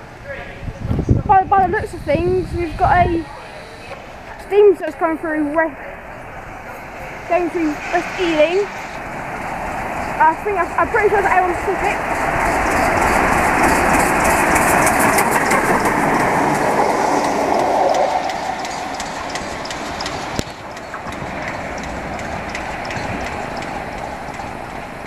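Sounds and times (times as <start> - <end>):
train rumbling past: 0.0 - 25.0
wheels clacking on rail joints: 3.8 - 25.0.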